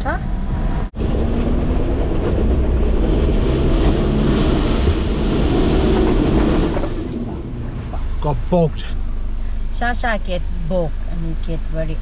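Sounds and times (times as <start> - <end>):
engine rumble inside vehicle: 0.0 - 12.0.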